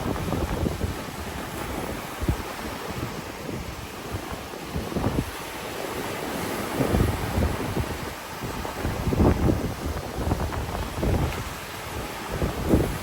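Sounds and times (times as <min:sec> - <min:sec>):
sea waves washing on beach: 0:00.0 - 0:13.0
wind buffeting microphone: 0:00.0 - 0:13.0.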